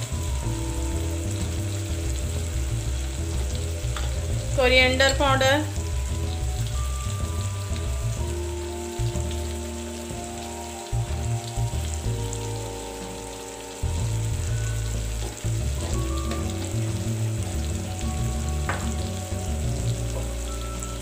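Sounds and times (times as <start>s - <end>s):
background music of held notes: 0.0s - 21.0s
food sizzling in oil: 0.0s - 21.0s.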